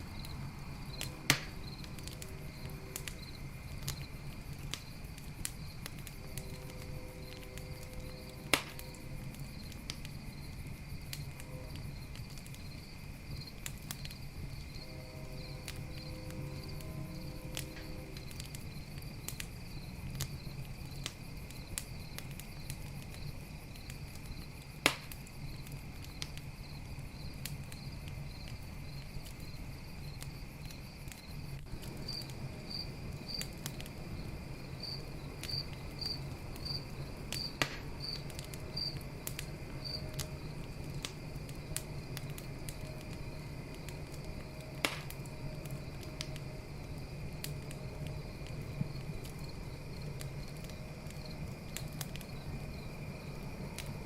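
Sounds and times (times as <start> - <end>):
campfire crackling: 0.0 - 54.0
crickets chirping: 0.0 - 54.0
fire popping: 0.0 - 54.0.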